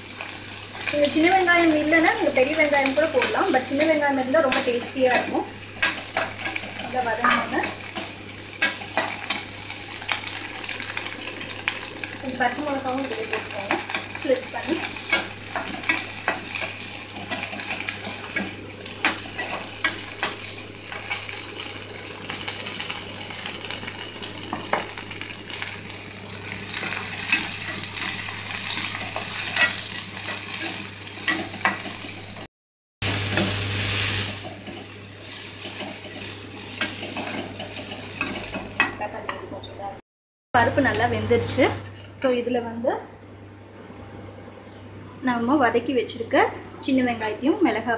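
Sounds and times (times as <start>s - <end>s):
vegetables sizzling in oil: 0.0s - 39.2s.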